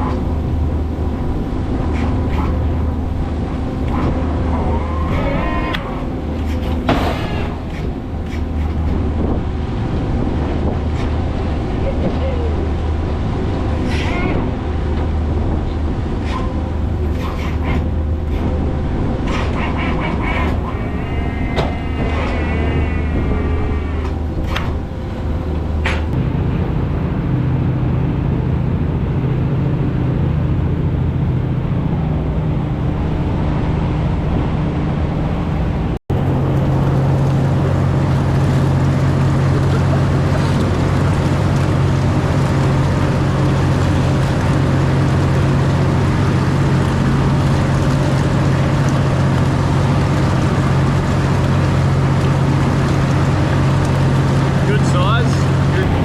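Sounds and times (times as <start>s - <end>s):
boat engine and machinery drone: 0.0s - 56.0s.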